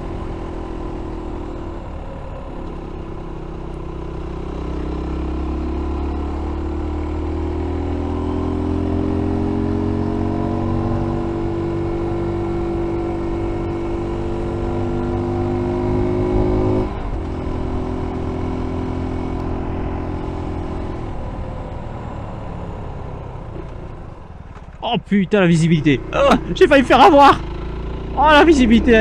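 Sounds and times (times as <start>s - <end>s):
motorcycle engine: 0.0s - 29.0s.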